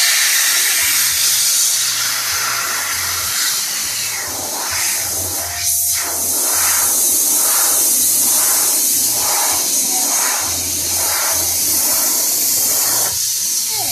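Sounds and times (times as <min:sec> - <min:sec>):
compressed air hissing from valve: 0:00.0 - 0:13.9.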